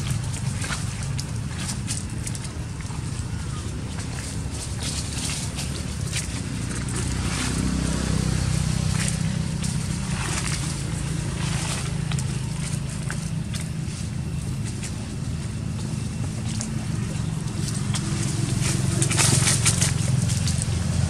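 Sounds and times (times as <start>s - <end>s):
dry leaves crackling: 0.0s - 21.0s
low engine hum: 0.0s - 21.0s.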